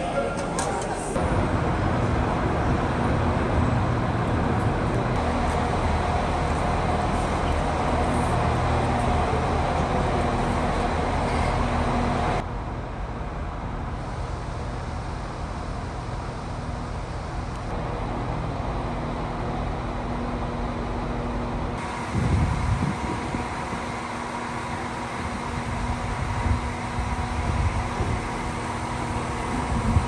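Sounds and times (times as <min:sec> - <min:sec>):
diesel train idling: 0:00.0 - 0:30.0
open-air platform ambience: 0:00.0 - 0:30.0
station ambience: 0:00.0 - 0:30.0.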